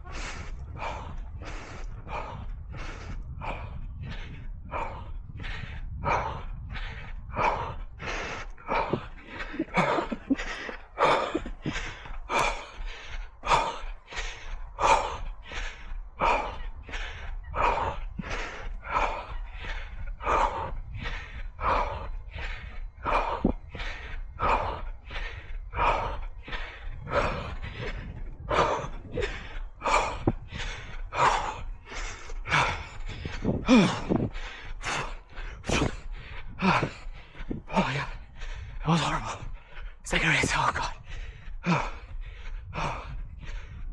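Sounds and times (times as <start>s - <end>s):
low rumble: 0.0s - 43.9s
runner breathing hard: 0.0s - 43.9s.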